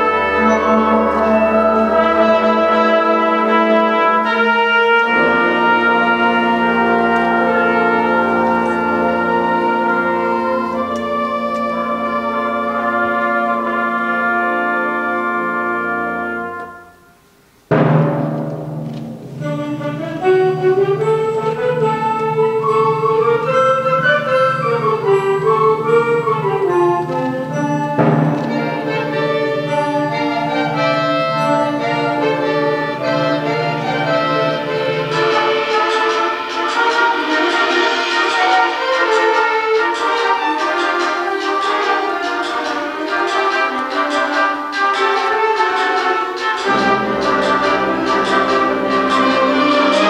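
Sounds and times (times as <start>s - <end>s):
concert band playing: 0.0s - 17.1s, 17.7s - 50.0s.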